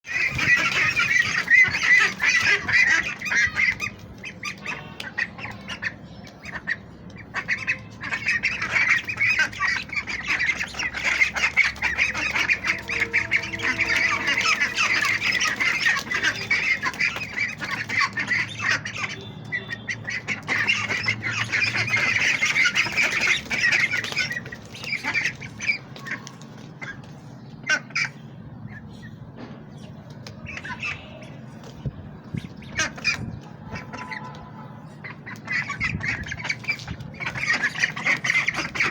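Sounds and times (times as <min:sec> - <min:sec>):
ducks quacking: 0:00.0 - 0:29.2, 0:30.4 - 0:38.9.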